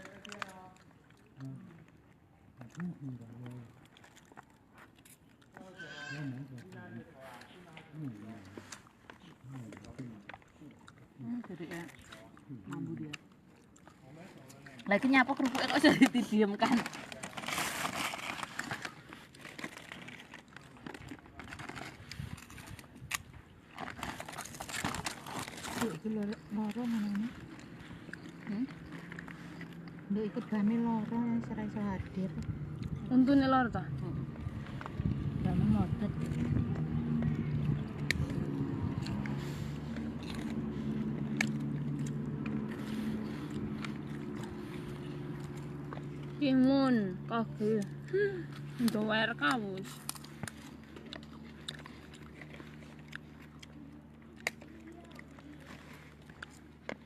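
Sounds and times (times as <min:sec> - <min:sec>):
food crinkling and crunching: 0:00.0 - 0:57.0.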